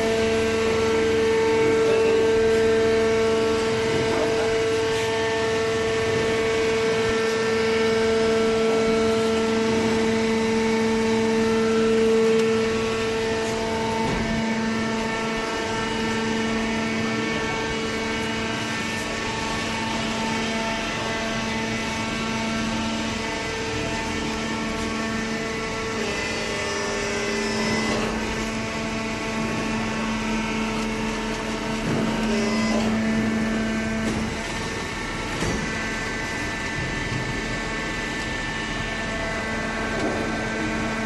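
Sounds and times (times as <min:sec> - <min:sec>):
hydraulic baler humming: 0:00.0 - 0:41.0.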